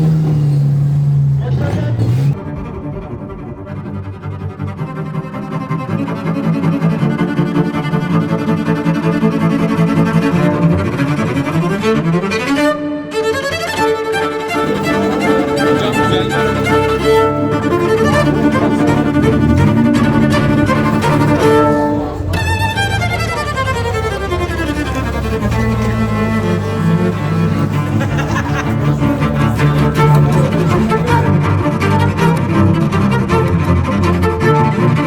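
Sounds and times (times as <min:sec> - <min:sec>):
bowed string music: 0:00.0 - 0:35.0.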